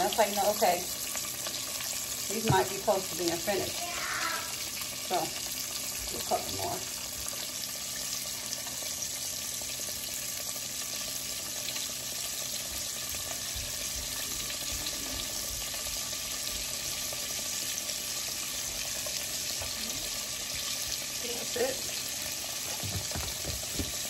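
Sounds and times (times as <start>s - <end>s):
mushrooms sizzling in hot oil: 0.0s - 24.0s.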